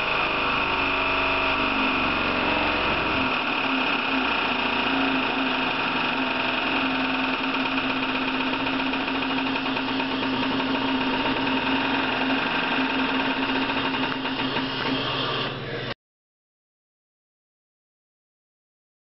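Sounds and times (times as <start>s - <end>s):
test machine humming: 0.0s - 16.0s.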